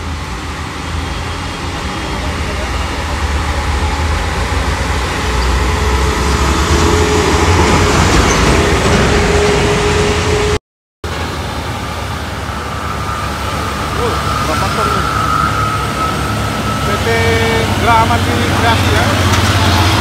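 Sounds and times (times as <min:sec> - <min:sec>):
truck diesel engine under load: 0:00.0 - 0:09.9, 0:11.0 - 0:20.0.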